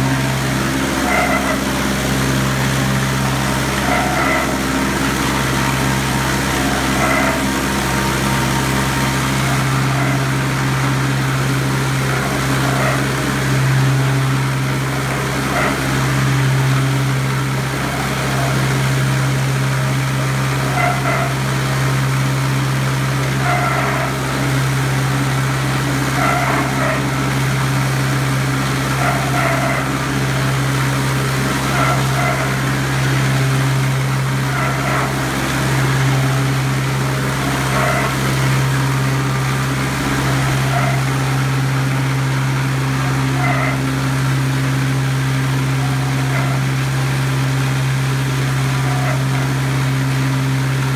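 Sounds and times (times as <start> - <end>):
bowl cutter motor hum: 0.0 - 50.9.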